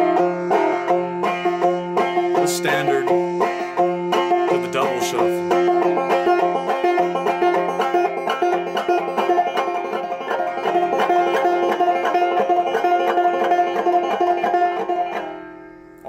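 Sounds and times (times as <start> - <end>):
banjo plucked notes: 0.0 - 16.0.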